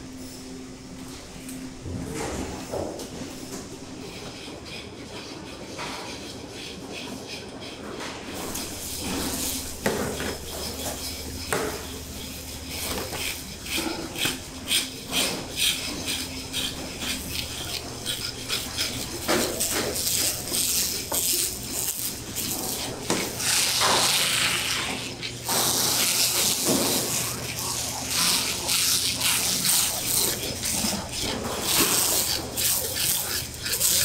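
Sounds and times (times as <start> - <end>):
machinery hum: 0.0 - 34.0.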